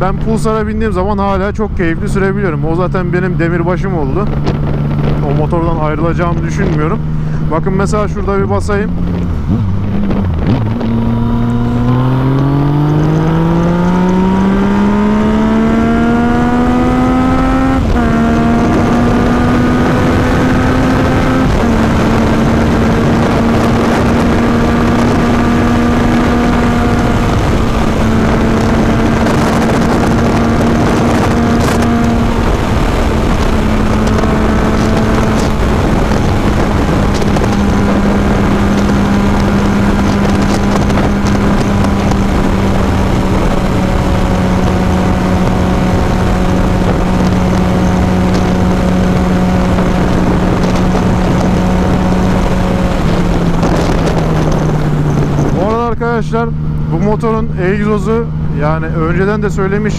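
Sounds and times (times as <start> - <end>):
motorcycle engine at full throttle: 0.0 - 59.9.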